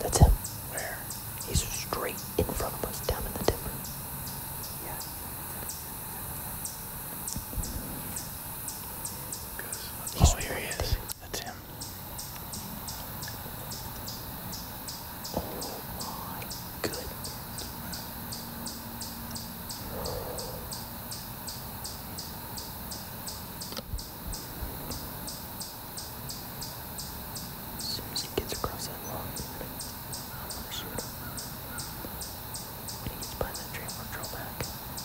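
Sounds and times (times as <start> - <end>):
insect chirping rhythmically: 0.0 - 35.0.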